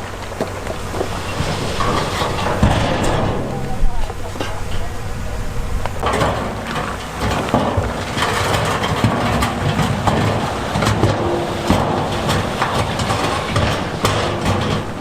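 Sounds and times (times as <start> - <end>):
heavy diesel machine running: 0.0 - 15.0.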